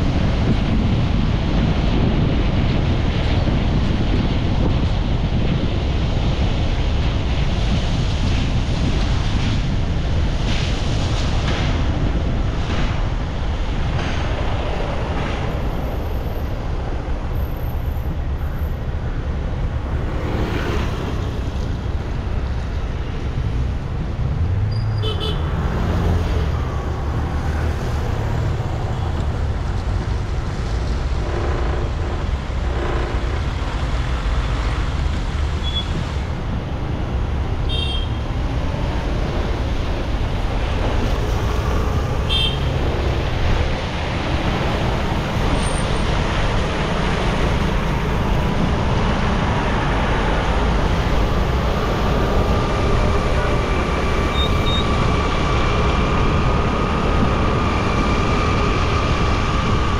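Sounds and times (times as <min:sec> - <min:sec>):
car road noise with tyre hiss: 0:00.0 - 0:59.9.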